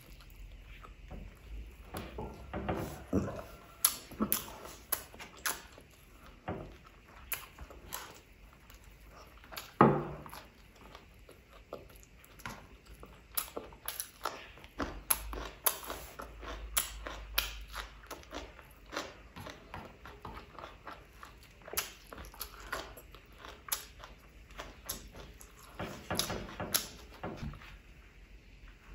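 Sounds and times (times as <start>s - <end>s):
chewing and lip smacking: 0.0s - 27.2s.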